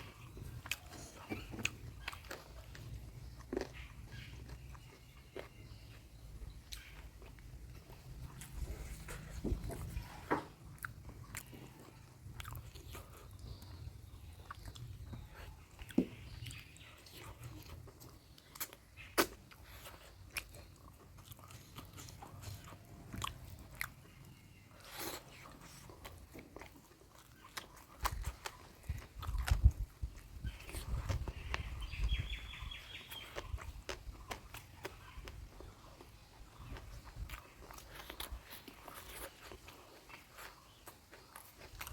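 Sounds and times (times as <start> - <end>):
chewing and biting food: 0.0 - 41.9.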